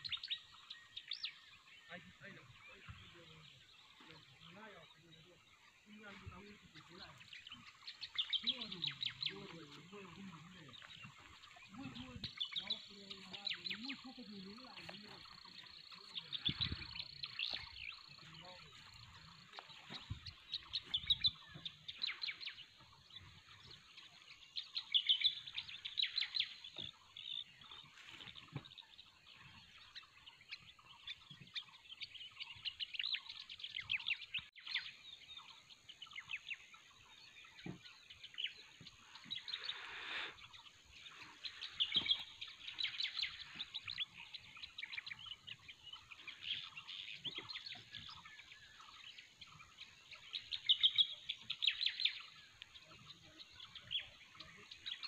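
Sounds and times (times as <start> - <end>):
small birds trilling: 0.0 - 55.0.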